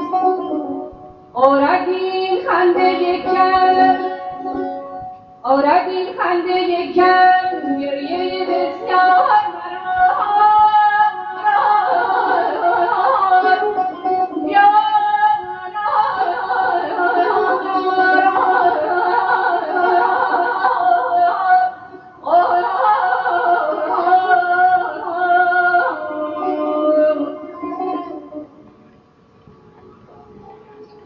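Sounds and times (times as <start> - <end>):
woman singing with ornaments: 0.0 - 28.6.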